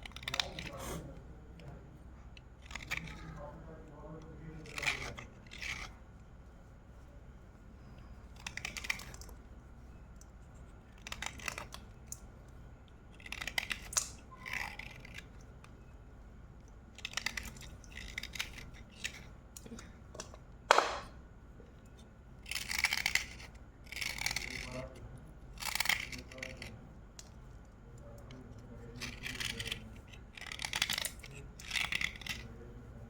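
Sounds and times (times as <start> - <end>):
chewing crunchy pencils: 0.0 - 6.4, 7.0 - 20.4, 21.6 - 33.0.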